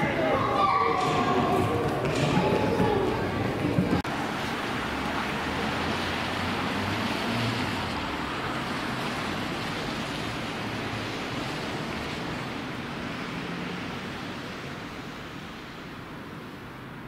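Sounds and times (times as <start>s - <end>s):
city background hiss: 2.8s - 17.0s.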